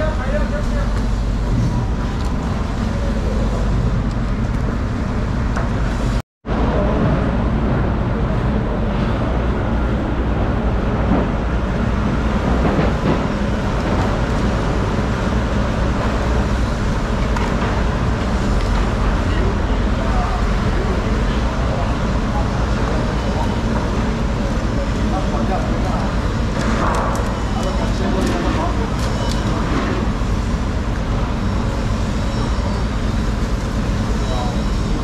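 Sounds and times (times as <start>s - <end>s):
loud background din with low rumble: 0.0s - 35.0s.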